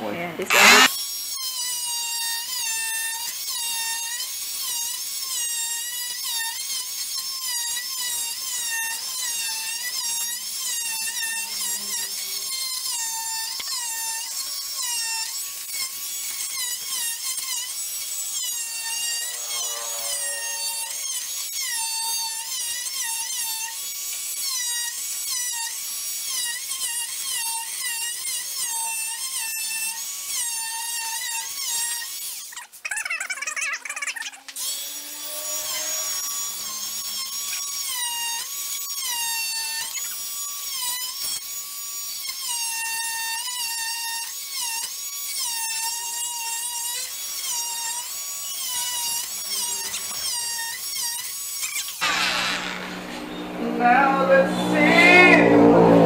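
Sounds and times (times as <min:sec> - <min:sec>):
oscillating tool whining into wood: 0:00.5 - 0:56.0.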